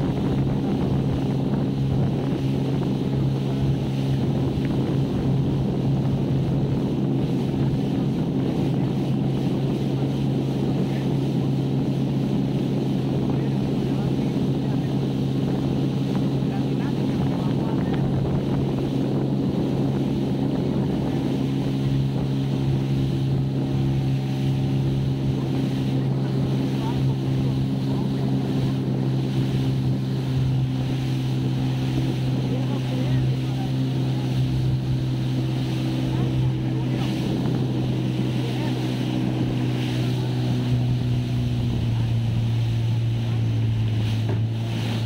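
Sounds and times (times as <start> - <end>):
motorboat engine running: 0.0 - 45.0
water rushing past hull: 0.0 - 45.0.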